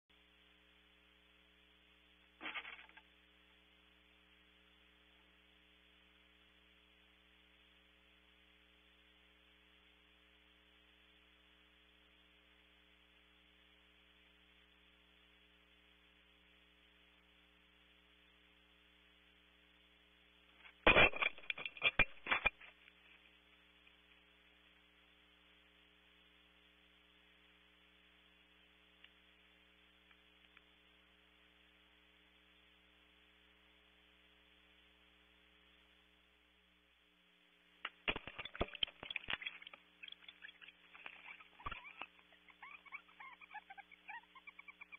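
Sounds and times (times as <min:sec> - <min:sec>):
faint electrical hum and hiss: 0:00.1 - 0:44.9.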